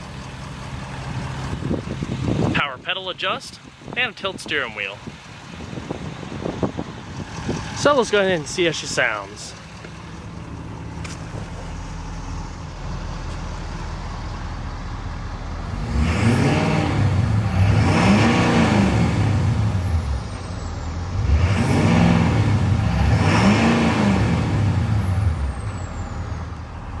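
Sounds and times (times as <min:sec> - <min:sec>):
diesel engine idling and revving: 0:00.0 - 0:27.0.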